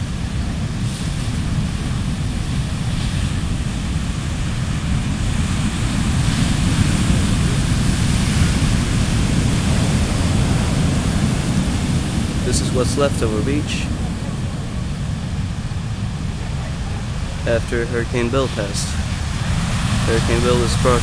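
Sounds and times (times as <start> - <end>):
waves crashing on beach: 0.0 - 21.0
wind rumble on microphone: 0.0 - 21.0.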